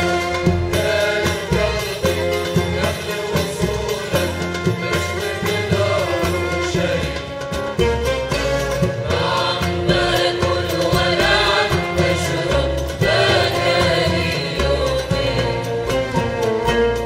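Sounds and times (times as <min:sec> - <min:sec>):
mixed choir singing in unison: 0:00.0 - 0:16.8
oud: 0:00.0 - 0:17.0
qanun: 0:00.0 - 0:17.0
violins: 0:00.0 - 0:17.0.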